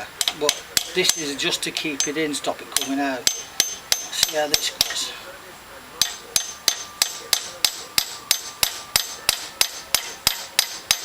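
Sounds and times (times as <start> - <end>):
hammer tapping metal screwdriver bit: 0.0 - 5.1, 6.0 - 11.0.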